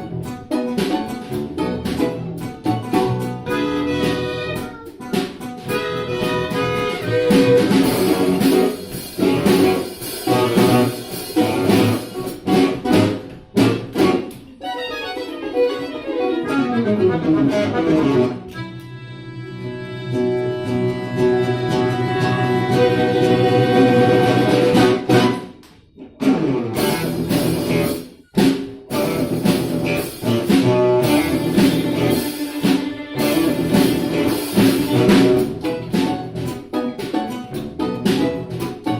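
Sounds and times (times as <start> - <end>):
instrumental ensemble playing: 0.0 - 38.9.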